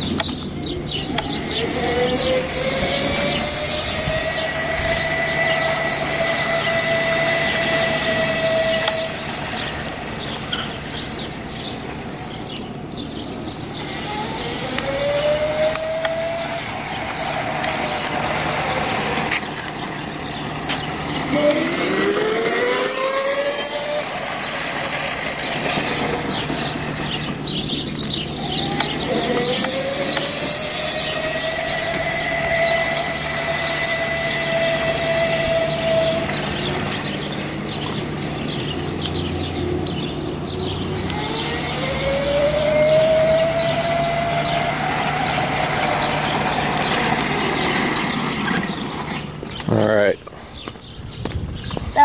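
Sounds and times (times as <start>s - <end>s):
electric go-kart motor whining: 0.0s - 49.9s.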